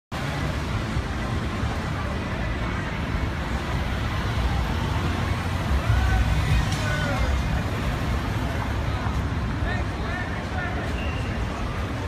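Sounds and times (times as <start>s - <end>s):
city traffic rumble: 0.1s - 12.0s
faint voices: 0.3s - 12.0s.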